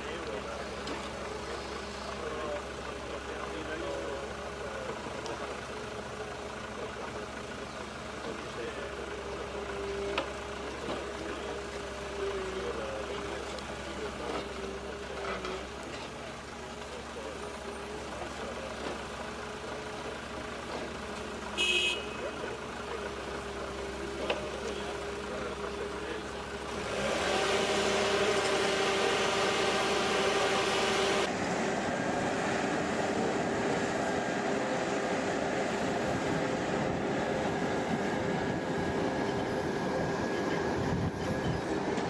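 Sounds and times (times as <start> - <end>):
engines running: 0.0 - 42.0.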